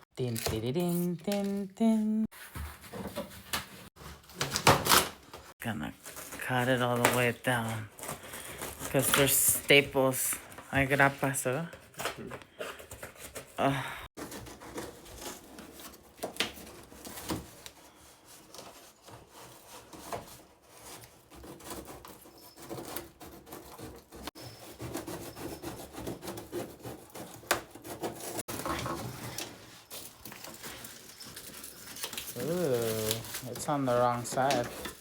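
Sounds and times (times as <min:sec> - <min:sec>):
cardboard scraping and rubbing: 0:02.3 - 0:05.4, 0:06.1 - 0:35.0.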